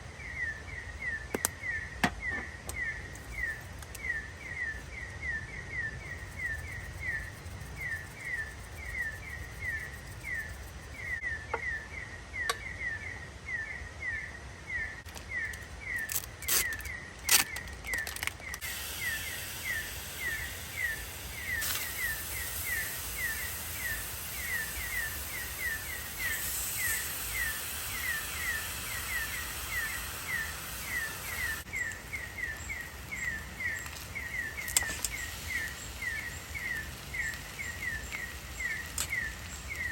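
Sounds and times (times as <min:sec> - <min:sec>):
outdoor ambience hiss: 0:00.0 - 0:39.9.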